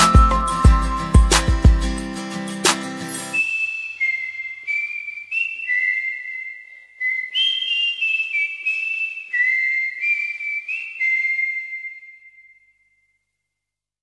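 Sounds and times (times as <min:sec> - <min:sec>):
whistled melody: 0:00.0 - 0:01.9, 0:03.1 - 0:13.2.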